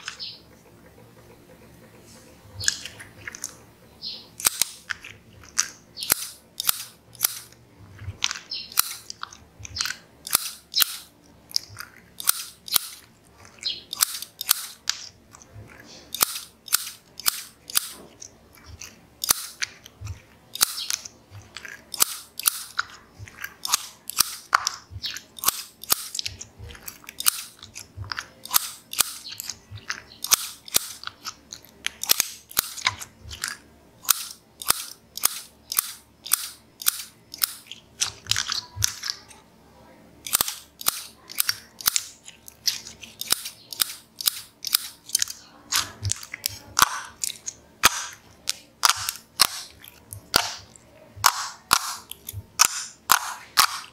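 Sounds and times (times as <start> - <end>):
scissors snipping slime: 4.4 - 39.4, 40.3 - 53.9.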